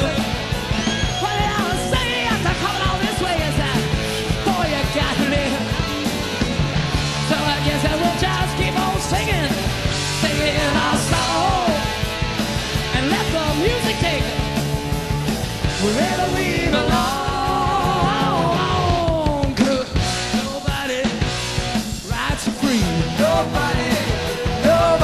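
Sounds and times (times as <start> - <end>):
bass: 0.0 - 25.0
drums: 0.0 - 25.0
electric guitar lead: 0.0 - 25.0.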